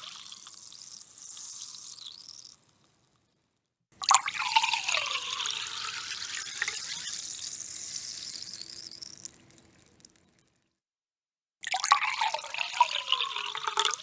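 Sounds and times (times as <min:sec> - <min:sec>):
sparkling water pouring and fizzing: 0:00.0 - 0:03.0, 0:04.0 - 0:10.4, 0:11.7 - 0:14.0.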